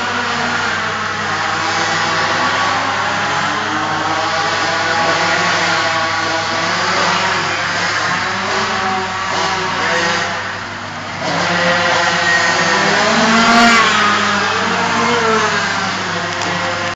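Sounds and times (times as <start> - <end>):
minibike engines revving: 0.0 - 16.9.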